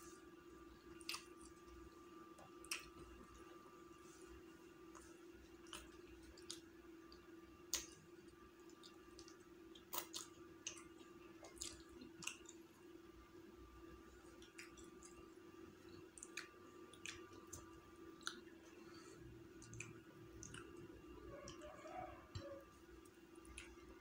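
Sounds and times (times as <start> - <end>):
faint steady hum: 0.0 - 24.0
man chewing with lip smacks: 0.9 - 12.8, 14.2 - 24.0.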